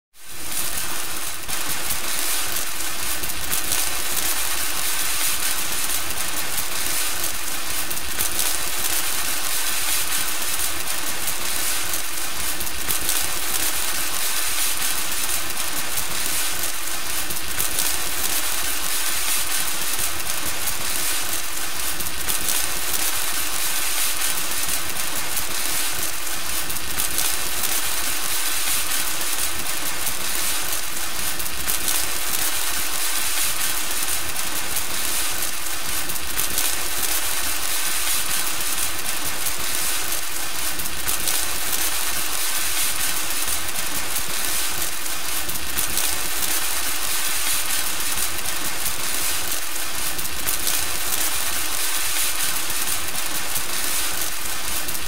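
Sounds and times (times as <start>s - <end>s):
sparkler fizzing and crackling: 0.2s - 55.0s.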